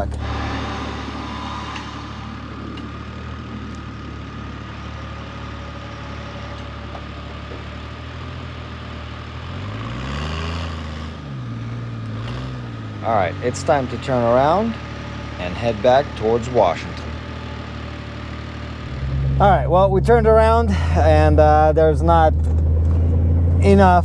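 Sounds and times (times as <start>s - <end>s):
engine idling and revving: 0.0s - 24.0s.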